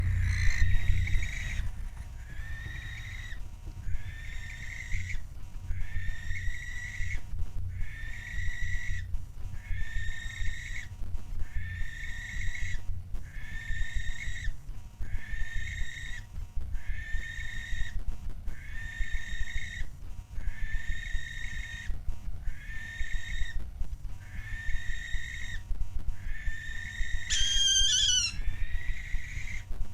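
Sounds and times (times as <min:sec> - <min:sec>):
barn owl calling: 0:00.0 - 0:23.6, 0:24.2 - 0:29.7
steady low rumble: 0:00.0 - 0:27.3.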